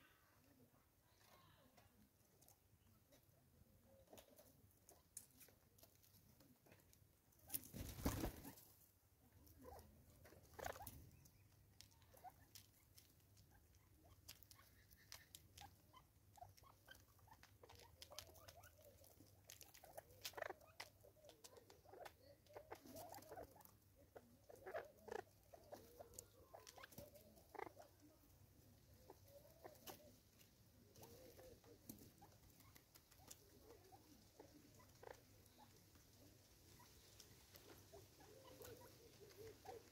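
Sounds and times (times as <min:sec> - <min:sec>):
soft low bird murmuring calls: 0:00.0 - 0:39.9
bird pecking and scratching: 0:00.4 - 0:39.9.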